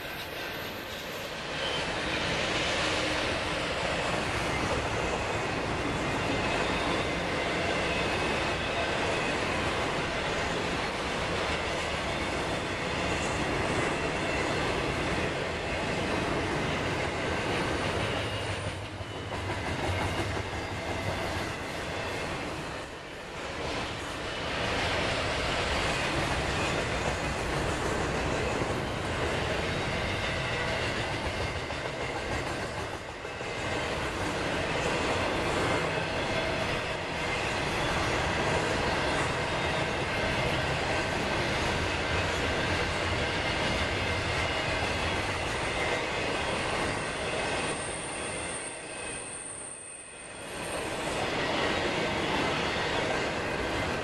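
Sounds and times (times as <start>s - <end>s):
train wheels rumbling and clattering: 0.0s - 54.0s.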